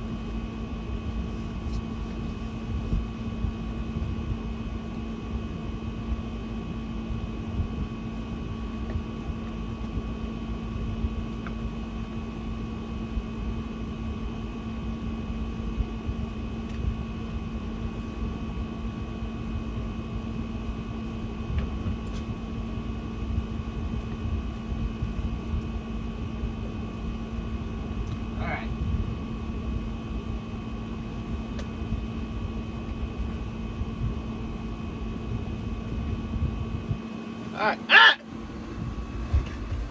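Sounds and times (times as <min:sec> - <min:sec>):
machine hum with whining tones: 0:00.0 - 0:39.9.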